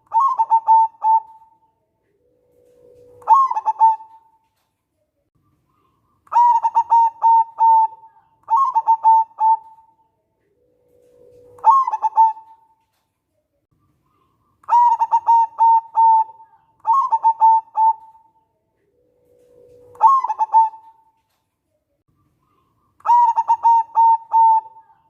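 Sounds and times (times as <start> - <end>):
dove cooing: 0.0 - 4.4, 5.8 - 12.8, 14.1 - 21.2, 22.5 - 25.0.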